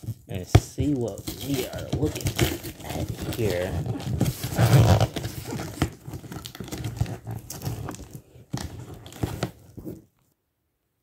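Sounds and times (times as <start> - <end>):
packing tape tearing: 0.0 - 10.0
cardboard rustling and scraping: 0.0 - 10.3.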